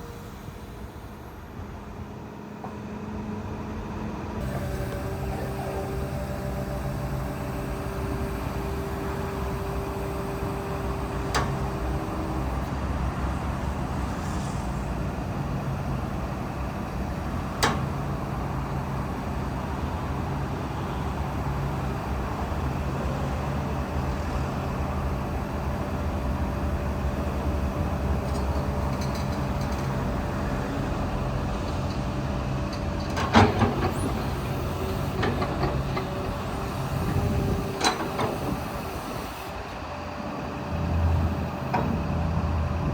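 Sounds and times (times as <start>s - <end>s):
excavator running: 0.0s - 42.9s.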